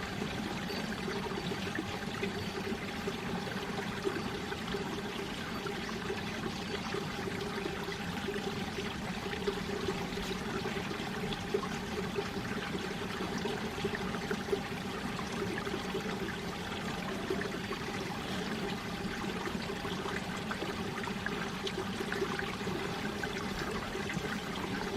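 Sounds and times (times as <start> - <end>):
stream babbling over rocks: 0.0 - 24.9.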